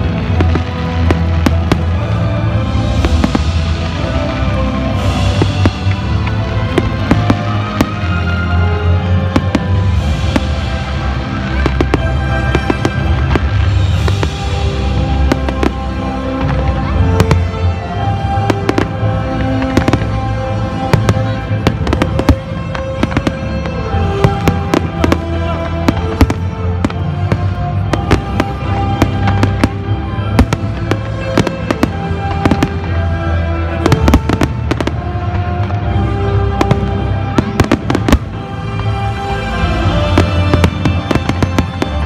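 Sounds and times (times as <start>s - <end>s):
fireworks banging: 0.0s - 42.0s.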